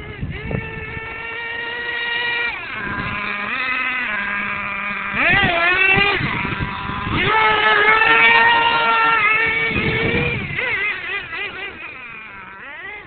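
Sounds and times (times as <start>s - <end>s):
nitro engine high-pitched whine: 0.0s - 13.0s.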